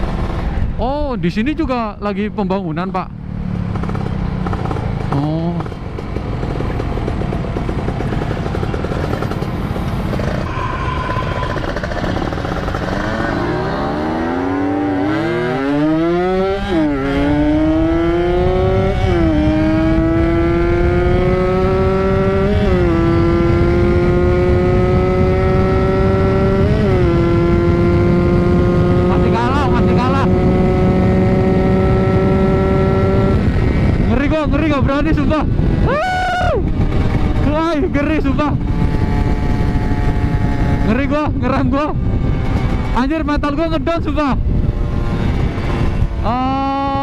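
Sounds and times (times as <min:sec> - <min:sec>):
two-stroke motorcycle engine accelerating: 0:03.2 - 0:47.0.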